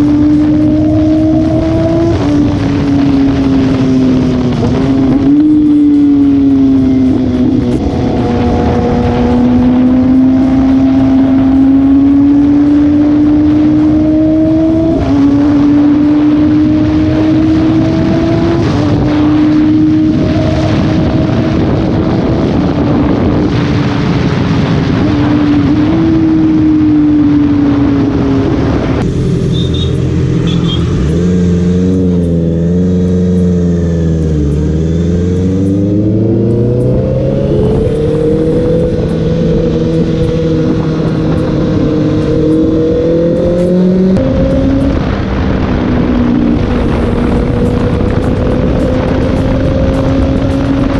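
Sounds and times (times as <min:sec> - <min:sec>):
motorcycle engine revving: 0:00.0 - 0:50.9
wind rush: 0:00.0 - 0:50.9.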